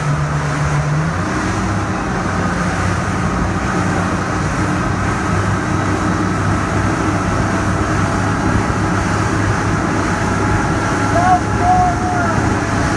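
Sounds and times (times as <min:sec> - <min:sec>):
boat engines droning: 0:00.0 - 0:12.9.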